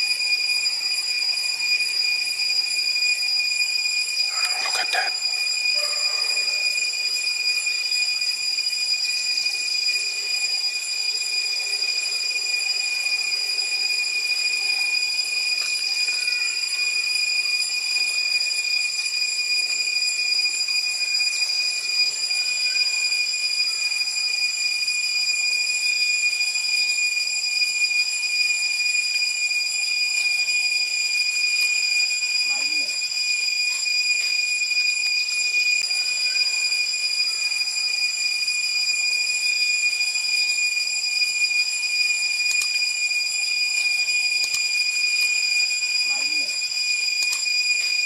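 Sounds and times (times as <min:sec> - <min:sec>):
cicadas shrilling: 0:00.0 - 0:48.0.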